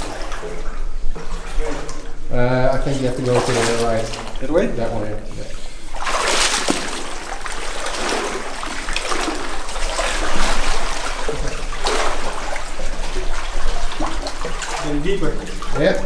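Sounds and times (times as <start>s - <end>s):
people wading through water: 0.0s - 16.0s.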